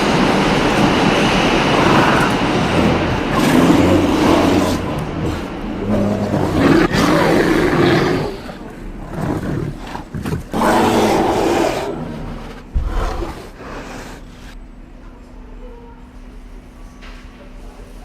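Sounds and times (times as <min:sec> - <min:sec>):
animal roaring: 0:00.0 - 0:14.6.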